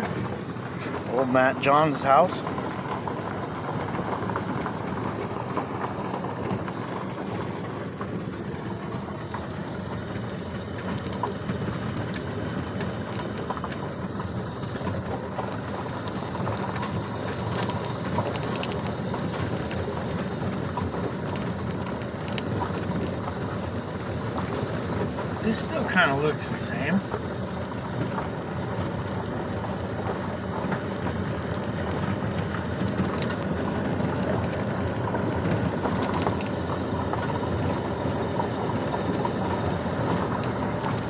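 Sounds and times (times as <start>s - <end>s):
gravel crunching under tyres: 0.0s - 41.0s
tyre and engine noise: 0.0s - 41.0s.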